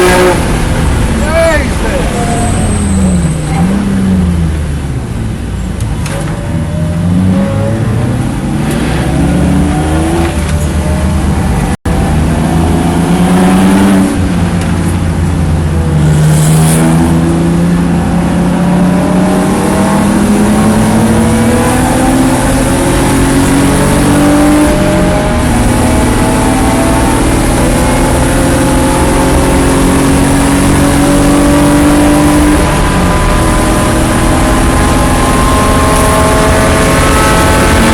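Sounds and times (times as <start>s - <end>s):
race car engine accelerating: 7.0s - 37.9s.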